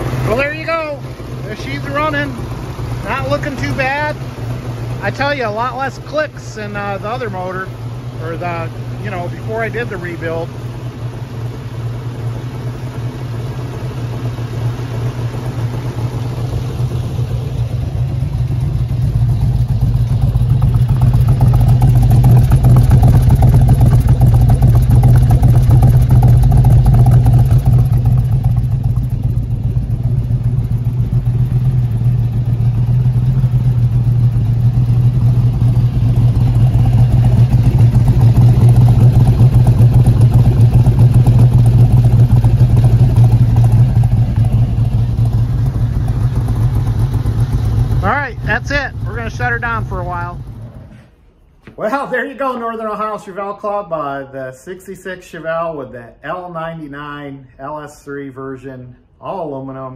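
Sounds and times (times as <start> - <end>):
car engine idling: 0.0 - 53.4.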